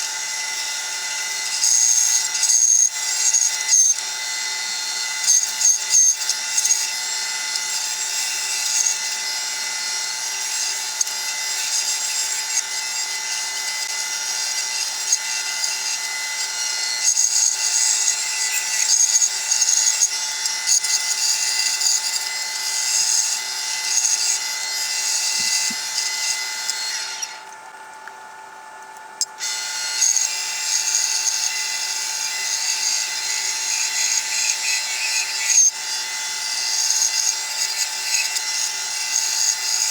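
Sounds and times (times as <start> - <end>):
saw blade cutting wood: 0.0 - 27.5, 29.2 - 39.9
bandsaw motor humming: 0.0 - 39.9.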